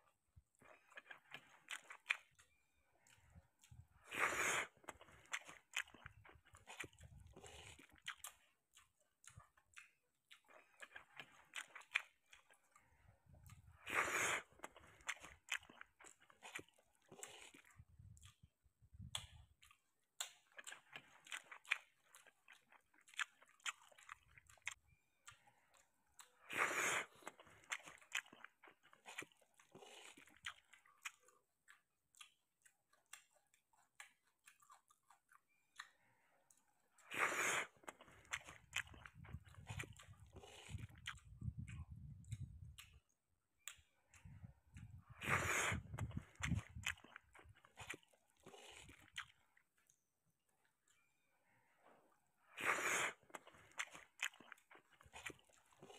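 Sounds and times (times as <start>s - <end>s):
man chewing and smacking: 0.0s - 55.9s.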